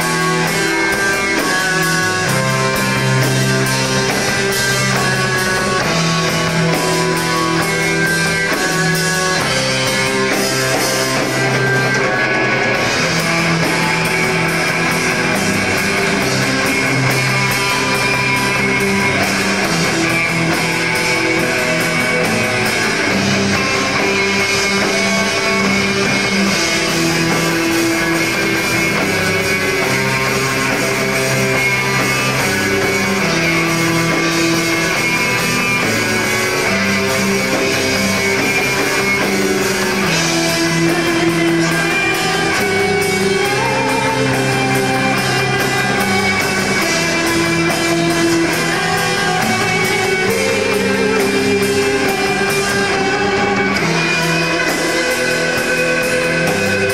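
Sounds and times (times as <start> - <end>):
drums: 0.0 - 56.9
electric guitars holding long notes: 0.0 - 56.9.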